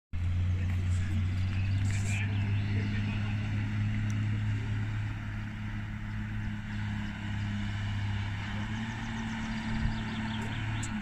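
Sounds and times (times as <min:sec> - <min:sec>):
diesel engine running: 0:00.2 - 0:11.0.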